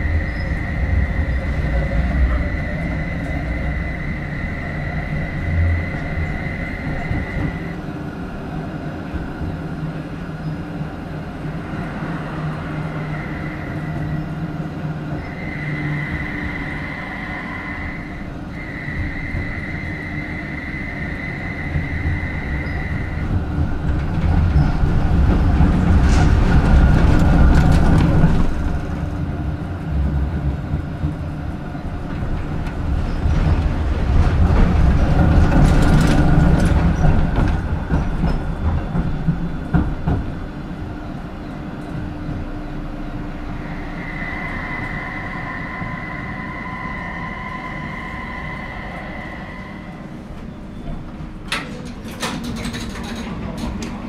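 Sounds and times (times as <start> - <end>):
rumbling rail noise: 0.0 - 54.0
tram high whine: 0.0 - 54.0.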